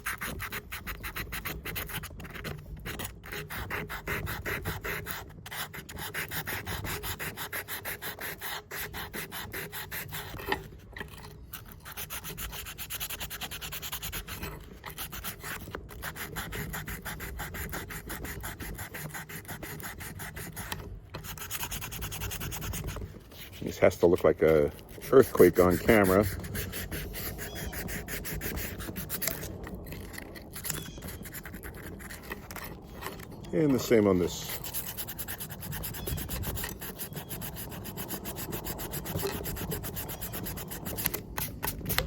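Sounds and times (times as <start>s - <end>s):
scrubbing a metal blade: 0.0s - 42.0s.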